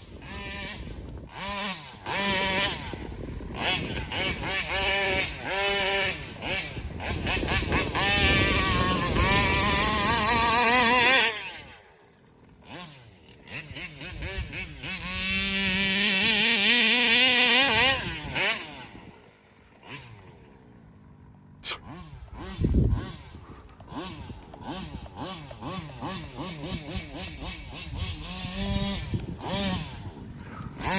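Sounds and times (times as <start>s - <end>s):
rc car engine revving: 0.0s - 12.0s, 12.6s - 20.7s, 21.6s - 30.9s.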